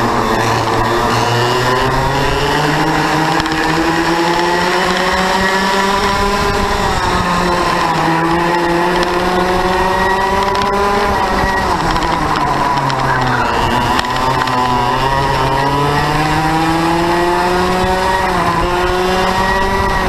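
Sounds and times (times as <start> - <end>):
kart engine racing: 0.0 - 20.0.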